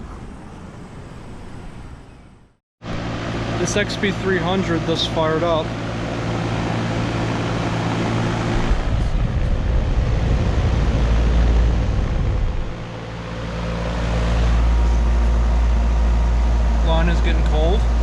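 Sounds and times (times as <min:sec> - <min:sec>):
air conditioner unit humming: 0:02.8 - 0:18.0
heavy low rumble: 0:02.8 - 0:18.0.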